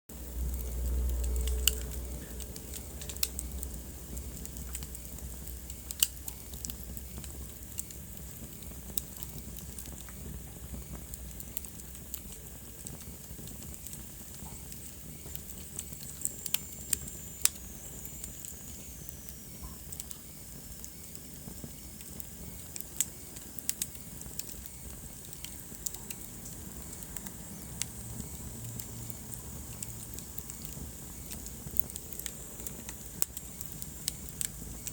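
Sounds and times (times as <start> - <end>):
logs crackling and popping: 0.1 - 34.9
low rumble of flames: 0.1 - 34.9.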